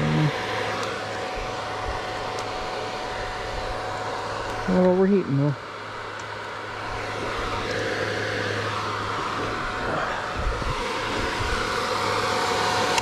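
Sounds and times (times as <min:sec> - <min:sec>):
radiator fan whirring: 0:00.0 - 0:13.0.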